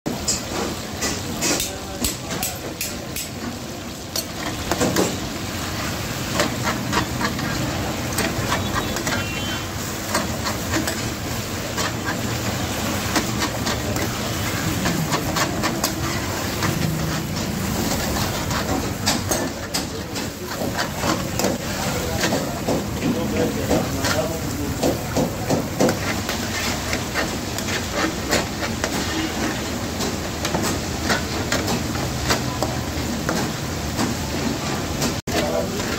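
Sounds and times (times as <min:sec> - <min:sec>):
metal spatula scraping a pan: 0:00.1 - 0:34.5, 0:35.2 - 0:35.9
chicken sizzling in hot oil: 0:00.1 - 0:35.9.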